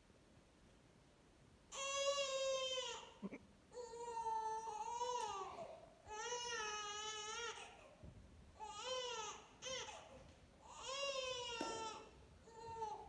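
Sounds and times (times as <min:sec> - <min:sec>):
newborn baby crying: 0:01.7 - 0:08.0, 0:08.6 - 0:13.0.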